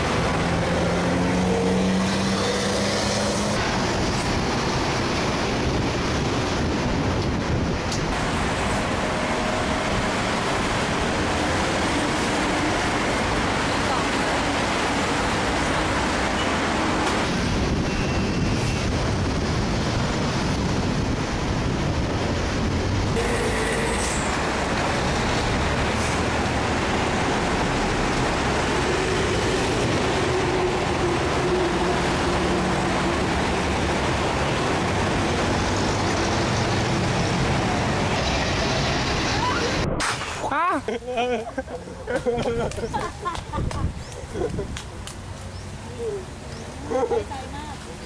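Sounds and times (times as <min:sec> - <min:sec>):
road traffic hum: 0:00.0 - 0:48.0.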